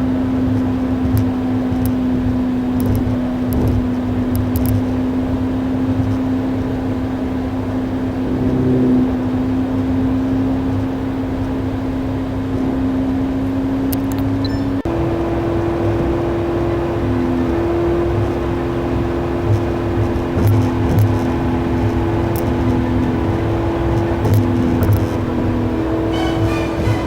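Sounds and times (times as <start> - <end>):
car engine running: 0.0 - 27.0
road and tyre noise: 0.0 - 27.0.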